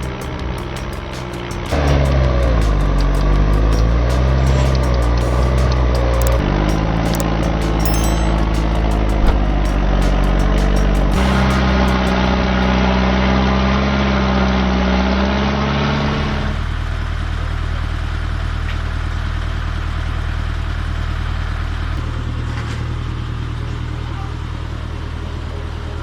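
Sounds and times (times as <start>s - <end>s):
engine idling with low throb: 0.0s - 15.2s, 16.0s - 26.0s.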